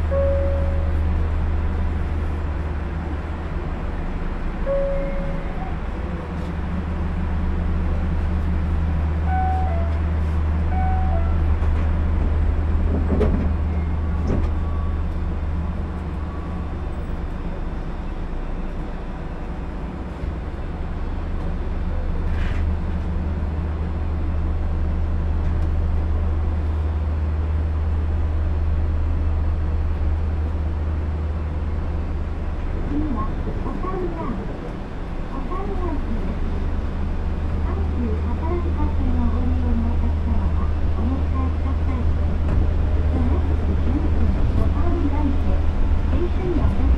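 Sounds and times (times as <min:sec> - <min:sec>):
train hum: 0:00.0 - 0:46.9.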